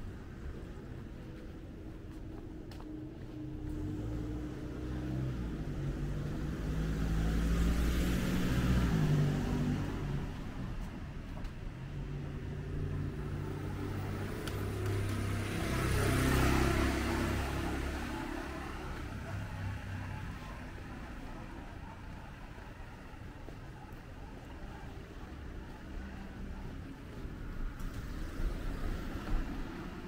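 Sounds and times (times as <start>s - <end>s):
vehicles passing on street: 0.0s - 30.0s.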